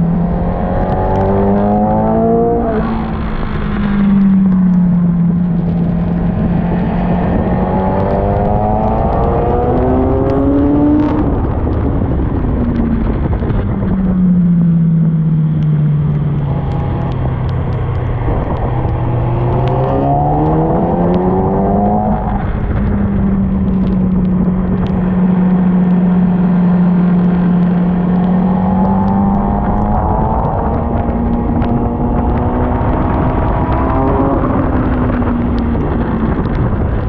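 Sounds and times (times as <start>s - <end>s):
constant rushing noise: 0.0s - 37.0s
motorcycle engine revving: 0.0s - 37.0s.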